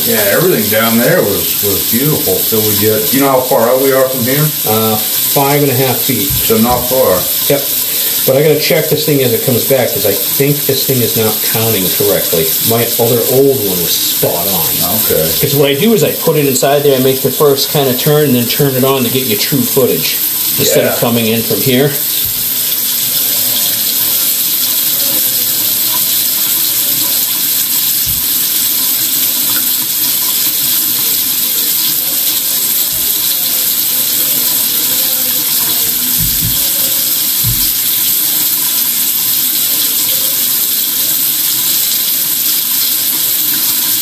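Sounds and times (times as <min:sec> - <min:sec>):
running water hiss: 0:00.0 - 0:44.0.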